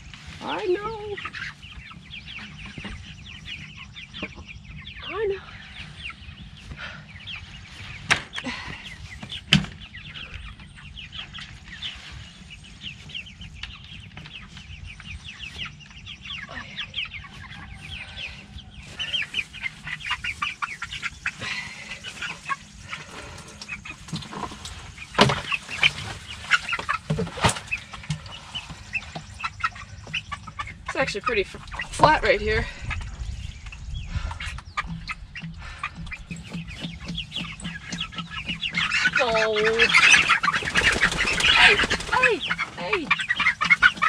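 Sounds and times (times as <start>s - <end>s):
chicks peeping and cheeping: 0.0s - 44.0s.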